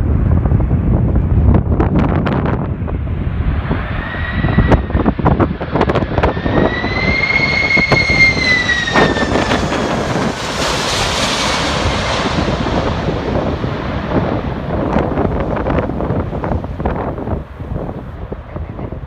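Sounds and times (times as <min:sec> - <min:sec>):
jet airliner passing: 0:00.0 - 0:19.0
wind buffeting microphone: 0:00.0 - 0:19.0.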